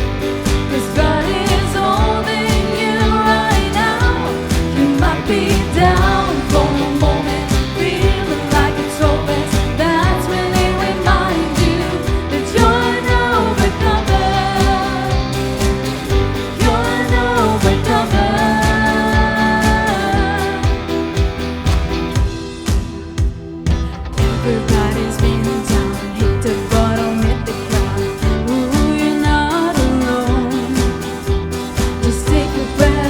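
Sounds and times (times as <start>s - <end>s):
person singing: 0.0s - 21.7s, 24.2s - 33.0s
worship band playing pop song: 0.0s - 33.0s.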